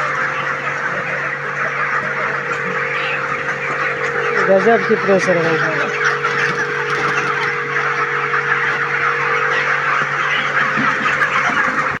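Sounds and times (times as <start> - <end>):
chickens chattering: 0.0 - 12.0
pressure washer running: 0.0 - 12.0.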